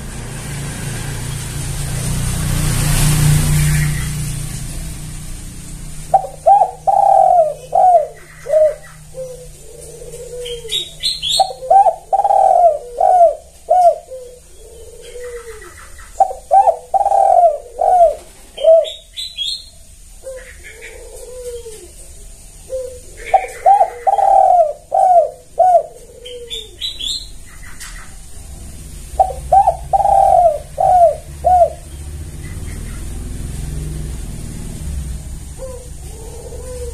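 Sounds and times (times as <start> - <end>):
vehicle passing: 0.0 - 36.9
dove cooing: 6.0 - 36.9.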